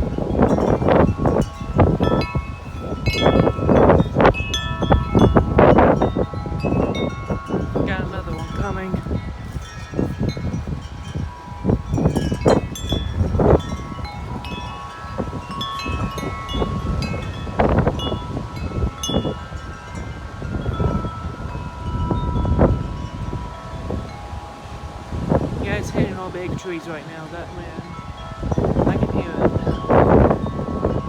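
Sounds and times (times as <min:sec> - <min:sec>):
metal wind chimes ringing: 0:00.0 - 0:31.0
wind buffeting microphone: 0:00.0 - 0:31.0.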